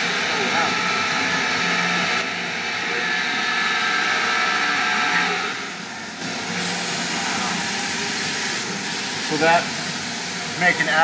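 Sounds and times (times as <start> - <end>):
machine tool whirring and whining: 0.0 - 11.0.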